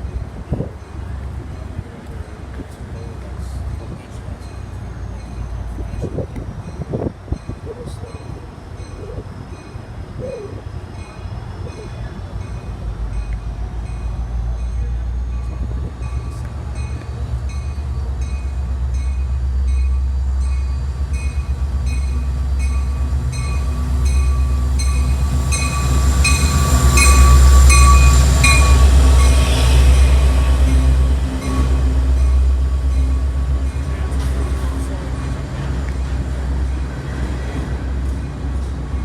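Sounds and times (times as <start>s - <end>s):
train passing rumble: 0.0s - 39.0s.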